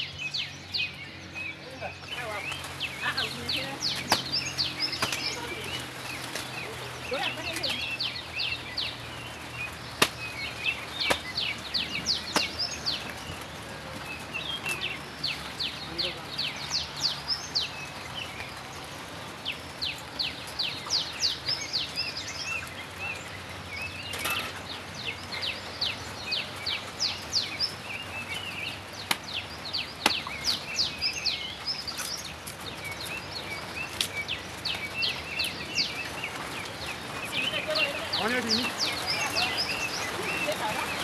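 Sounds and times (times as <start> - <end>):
low twittering calls: 0.0 - 41.0.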